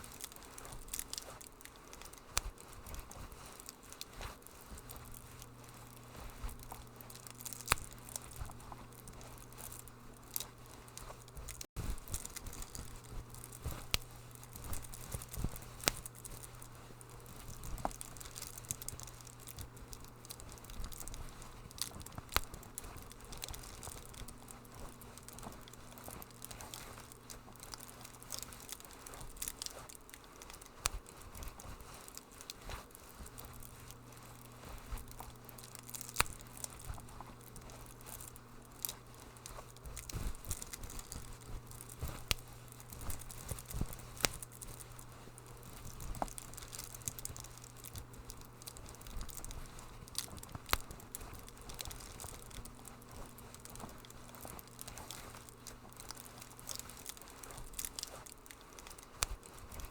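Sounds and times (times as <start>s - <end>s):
steady low hum: 0.0s - 59.9s
wood fire crackling: 0.0s - 59.9s.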